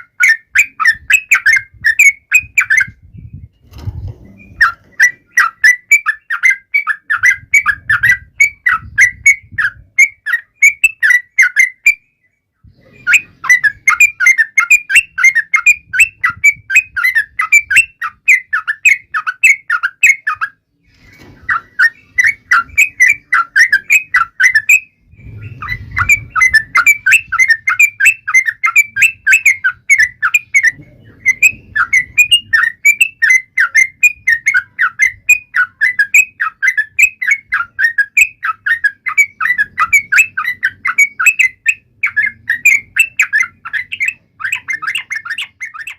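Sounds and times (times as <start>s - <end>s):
bird chattering song: 0.0s - 45.9s.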